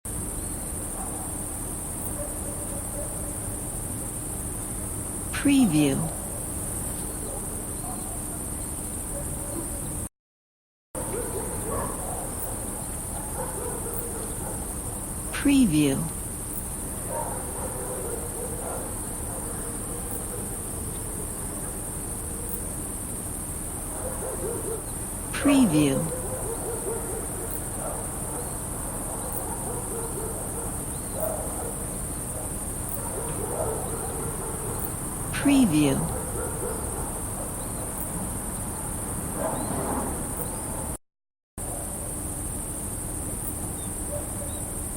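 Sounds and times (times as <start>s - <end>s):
crickets chirping: 0.1s - 10.1s, 11.0s - 41.0s, 41.6s - 44.9s
distant dogs barking: 0.8s - 4.0s, 6.0s - 10.1s, 11.0s - 15.4s, 16.1s - 41.0s, 44.0s - 44.8s.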